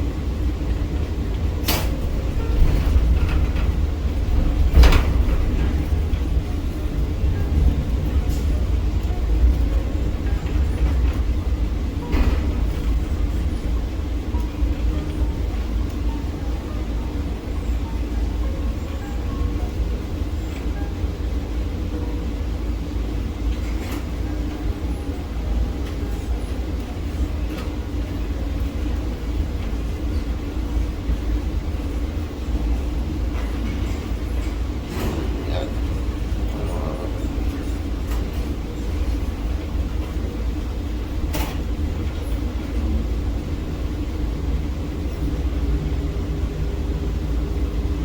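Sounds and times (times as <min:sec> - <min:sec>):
crane machinery rumble and hum: 0:00.0 - 0:48.0.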